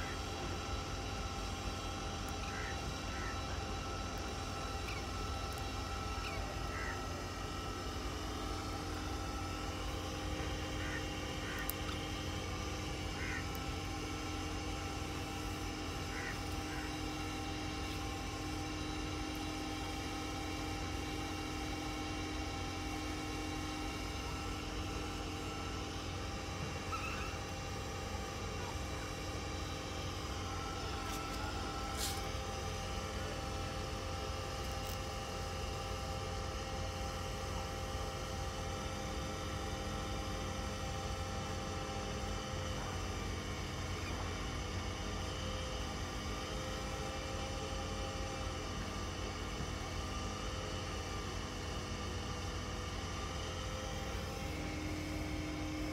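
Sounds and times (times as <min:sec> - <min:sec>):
faint steady tones: 0:00.0 - 0:55.9
low hum and rumble: 0:00.0 - 0:55.9.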